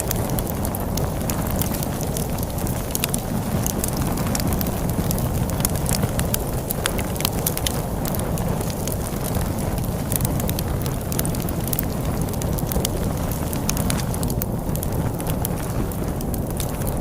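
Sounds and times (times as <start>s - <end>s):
log fire crackling and popping: 0.0s - 17.0s
low rumble of storm wind: 0.0s - 17.0s.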